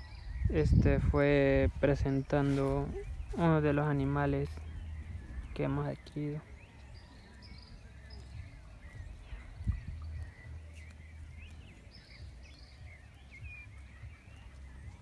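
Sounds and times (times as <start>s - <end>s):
birds chirping: 0.0s - 15.0s
wind rumble on microphone: 0.0s - 15.0s.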